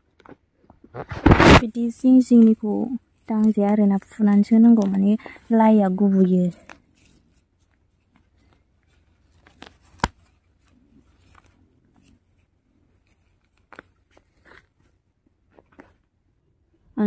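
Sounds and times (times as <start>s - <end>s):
leaves and soil rustling: 1.3s - 15.9s.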